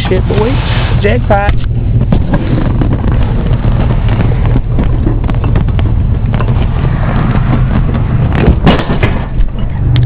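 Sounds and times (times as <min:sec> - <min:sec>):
vehicle engine running: 0:01.1 - 0:10.0
knocks and rattles: 0:01.5 - 0:10.0.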